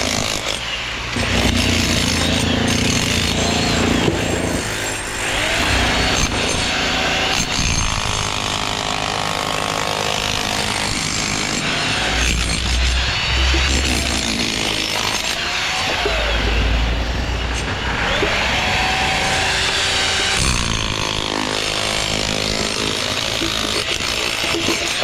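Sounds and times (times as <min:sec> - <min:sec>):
power tools and machinery running: 0:00.0 - 0:25.0.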